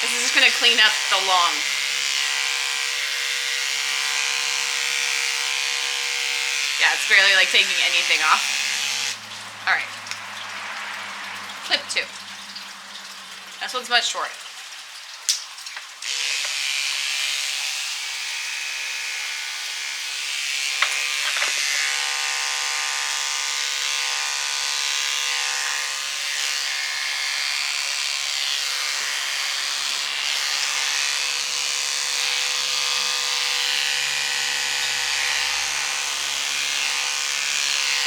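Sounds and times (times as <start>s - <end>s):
electric hair clippers humming: 0.0s - 12.3s, 16.0s - 38.0s.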